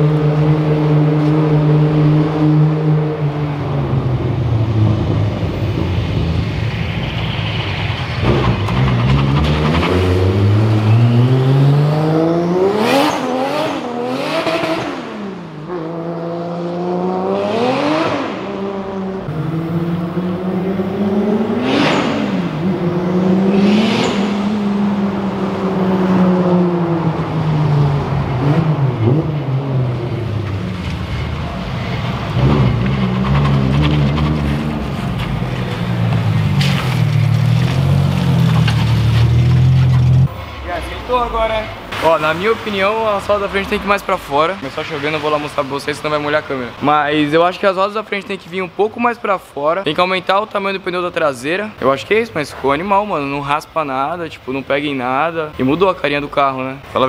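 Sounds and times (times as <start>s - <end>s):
car engine idling and revving: 0.0s - 49.5s.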